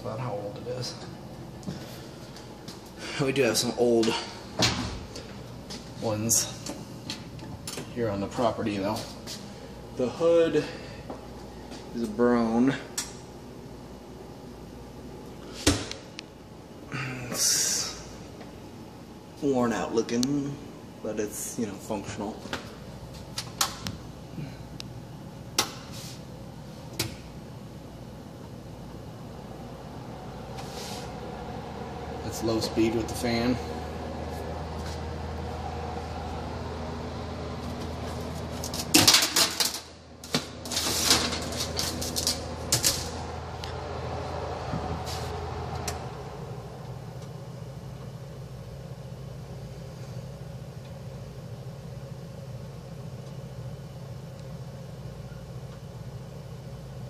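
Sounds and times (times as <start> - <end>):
exhaust fan humming: 0.0 - 57.0.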